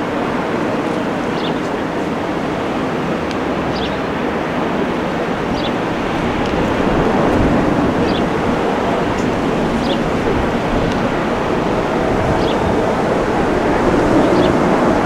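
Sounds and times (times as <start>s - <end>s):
jet airliner in flight: 0.0s - 15.0s.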